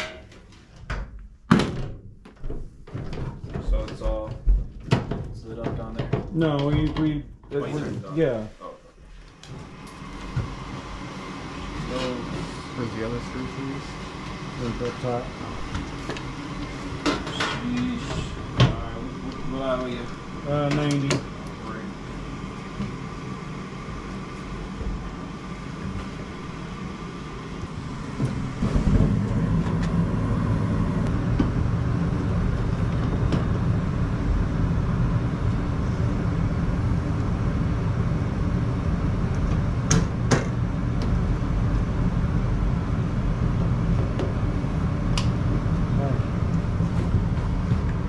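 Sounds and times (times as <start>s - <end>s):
furnace blower rumbling: 0.0s - 48.0s.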